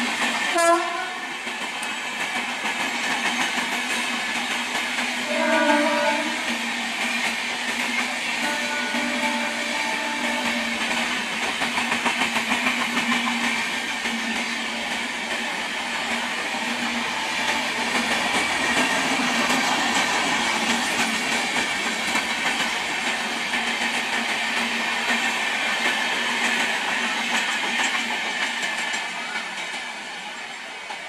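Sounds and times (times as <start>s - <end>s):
train rumble and hiss: 0.0s - 31.0s.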